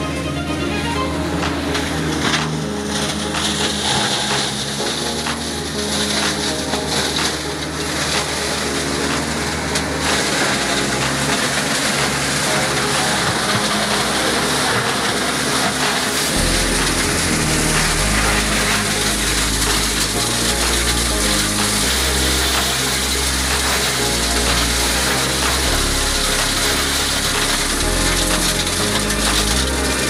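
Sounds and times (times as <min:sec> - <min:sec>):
shredder chopping branches: 0:00.0 - 0:30.0
tractor diesel engine running: 0:00.0 - 0:30.0
deep rumble: 0:01.0 - 0:30.0.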